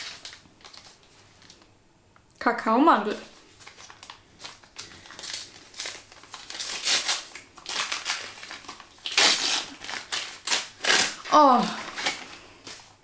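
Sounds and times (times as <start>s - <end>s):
gift wrapping crinkling and rustling: 0.0s - 1.7s, 3.1s - 13.0s.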